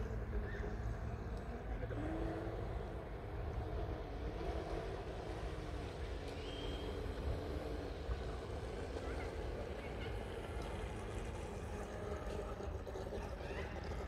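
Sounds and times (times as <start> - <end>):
model boat motor hum: 0.0 - 14.0.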